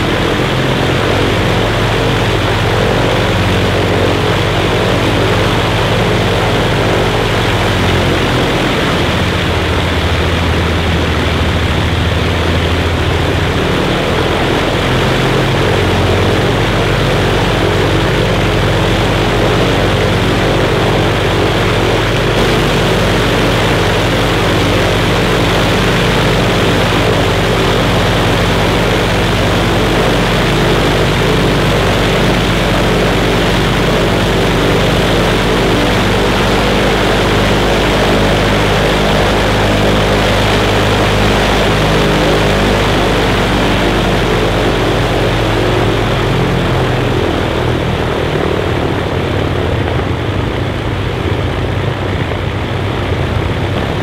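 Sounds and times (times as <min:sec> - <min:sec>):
propeller engines droning: 0:00.0 - 0:54.0.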